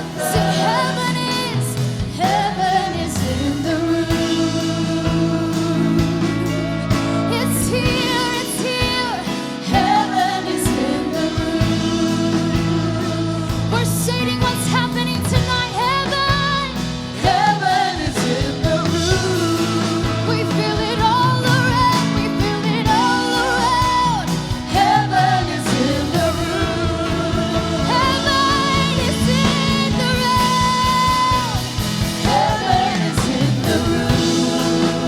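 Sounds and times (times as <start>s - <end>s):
worship band playing: 0.0s - 35.0s.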